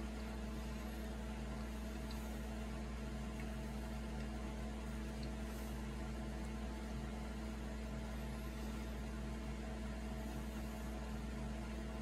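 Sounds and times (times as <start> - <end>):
appliance low hum: 0.0 - 12.0.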